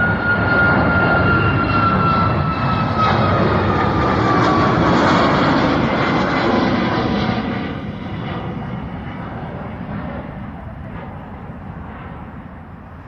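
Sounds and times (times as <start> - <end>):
jet engine whine: 0.0 - 13.0
jet engines roaring: 0.0 - 13.0.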